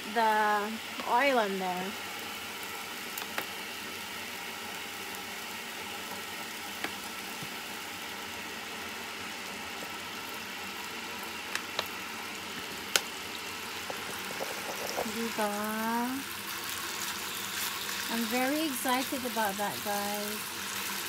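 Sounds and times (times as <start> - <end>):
sausages sizzling in a frying pan: 0.0 - 21.0.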